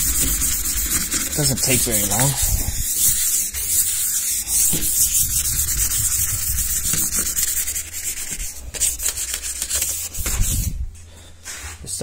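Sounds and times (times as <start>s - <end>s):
sandpaper scuffing on metal panel: 0.0s - 10.8s.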